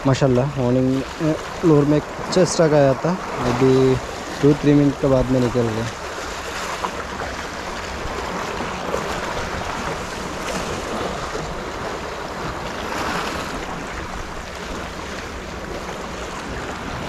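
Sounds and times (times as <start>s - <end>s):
waves splashing on rocks: 0.0s - 17.0s.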